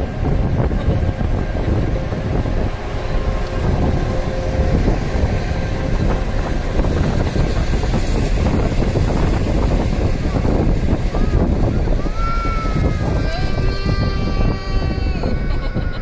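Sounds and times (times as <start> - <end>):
wind buffeting through car window: 0.0 - 16.0.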